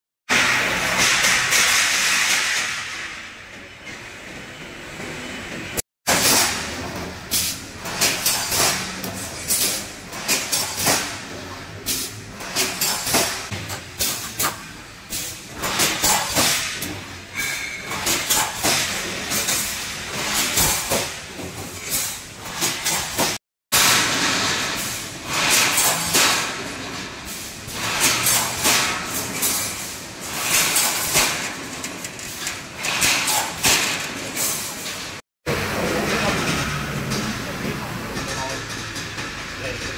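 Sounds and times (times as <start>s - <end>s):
welding machine clanking: 0.3s - 3.5s, 6.1s - 39.9s.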